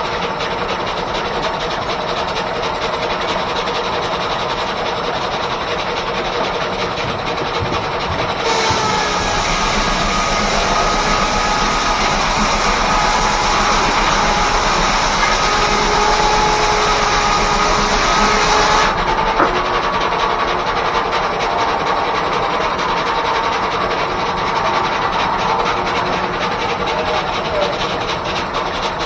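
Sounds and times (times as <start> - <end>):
steam-driven sawmill cutting wood: 0.0 - 29.0.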